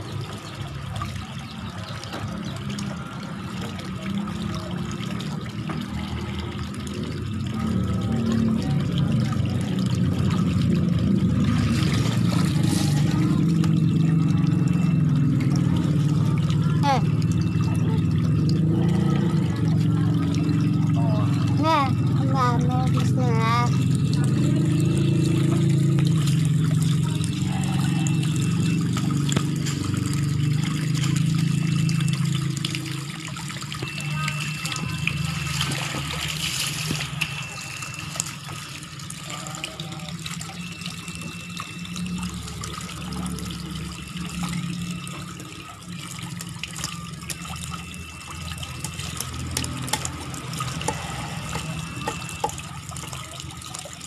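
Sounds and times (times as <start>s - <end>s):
tap water pouring into tub: 0.0s - 54.0s.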